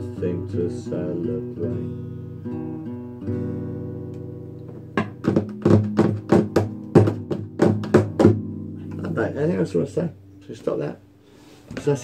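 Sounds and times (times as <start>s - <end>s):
acoustic guitar chord ringing: 0.0s - 11.5s
acoustic guitar strumming: 0.0s - 12.0s.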